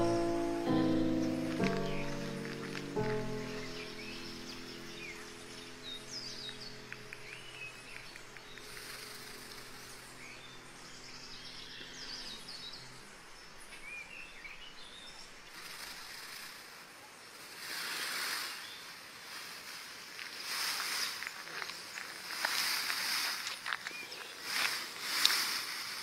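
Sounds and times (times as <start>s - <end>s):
rustling hiss: 0.0s - 26.0s
small birds chirping: 0.0s - 26.0s.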